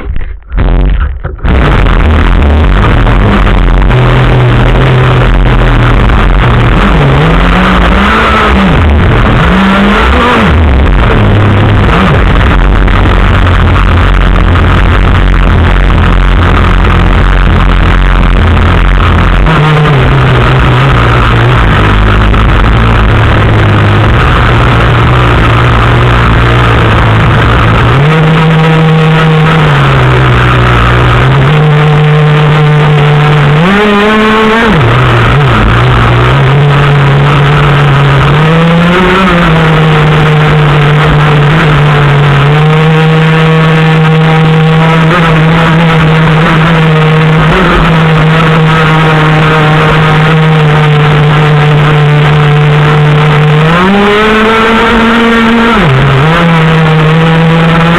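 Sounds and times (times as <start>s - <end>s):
engine revving: 0.0s - 57.9s.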